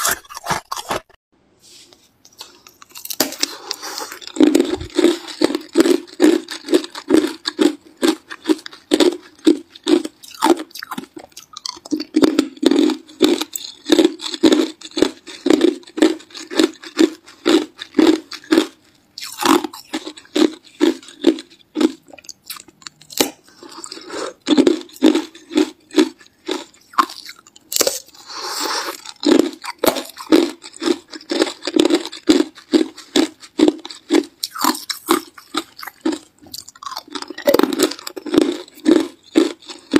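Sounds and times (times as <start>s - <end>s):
ice crunching between teeth: 0.0s - 1.2s, 2.4s - 39.9s.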